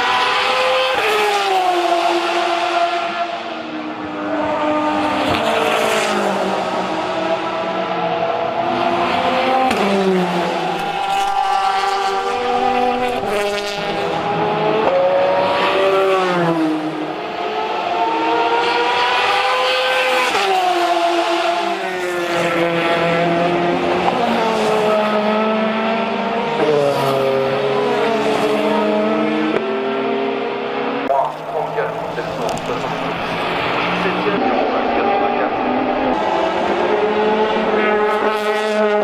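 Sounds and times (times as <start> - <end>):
race car engines at full throttle: 0.0 - 39.0.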